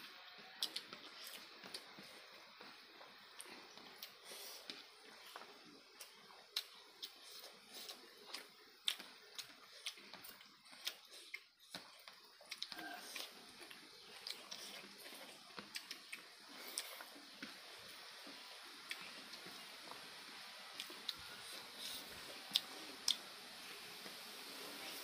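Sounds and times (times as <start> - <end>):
people chewing food: 0.0 - 25.0.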